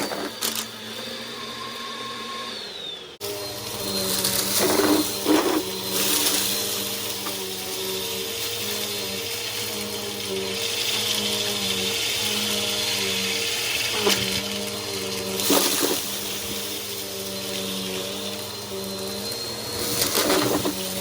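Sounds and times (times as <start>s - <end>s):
upright vacuum cleaner running: 0.0s - 21.0s.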